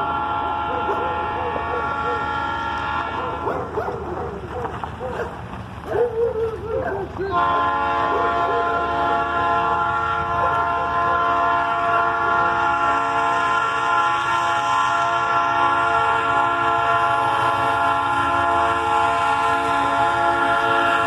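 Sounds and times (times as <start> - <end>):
locomotive air horn blast: 0.0 - 3.7, 7.3 - 21.0
low rumble of train: 0.0 - 21.0.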